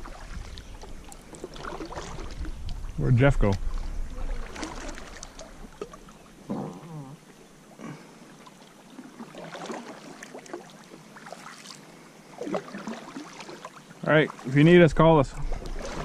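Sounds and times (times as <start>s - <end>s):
kayak paddle dipping and dripping: 0.0s - 14.7s, 15.4s - 16.0s
water lapping against hull: 0.0s - 16.0s.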